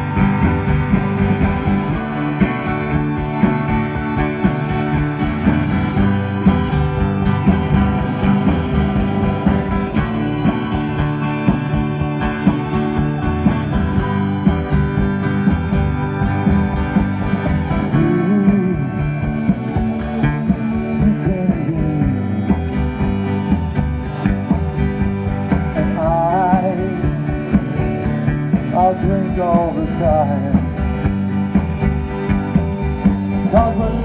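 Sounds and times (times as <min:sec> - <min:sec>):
rock guitars: 0:00.0 - 0:34.0
steady drum beat: 0:00.0 - 0:34.0.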